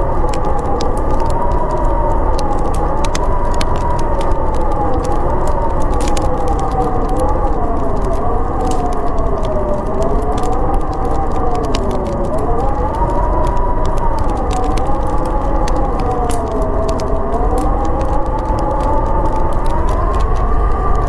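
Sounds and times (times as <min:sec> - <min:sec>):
howling storm wind: 0:00.0 - 0:21.0
wood fire crackling: 0:00.0 - 0:21.0.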